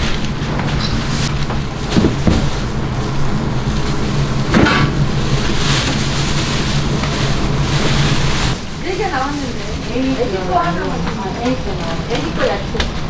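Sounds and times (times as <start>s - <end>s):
low hum: 0.0s - 12.1s.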